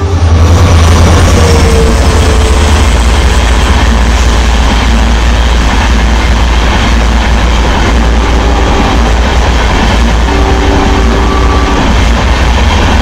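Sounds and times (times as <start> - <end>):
diesel locomotive engine rumbling: 0.0 - 13.0.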